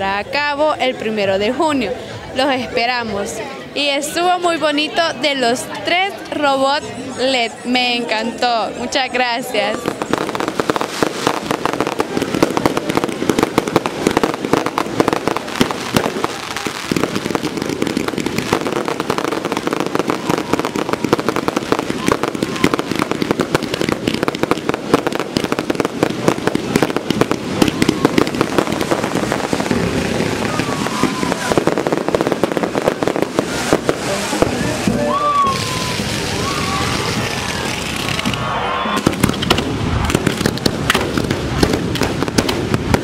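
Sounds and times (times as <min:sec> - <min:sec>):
murmur of crowd voices: 0:00.0 - 0:43.0
firecrackers crackling: 0:07.3 - 0:43.0.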